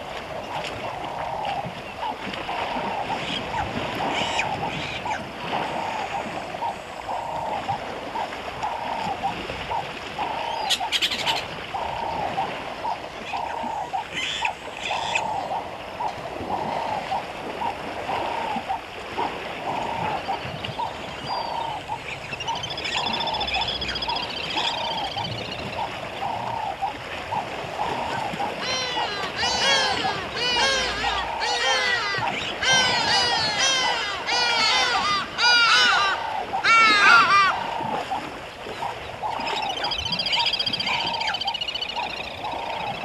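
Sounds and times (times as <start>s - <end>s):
birds calling: 0.3s - 18.9s, 19.6s - 43.0s.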